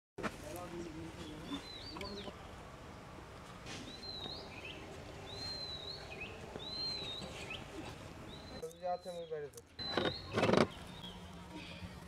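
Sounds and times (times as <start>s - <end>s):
outdoor background noise: 0.2s - 12.0s.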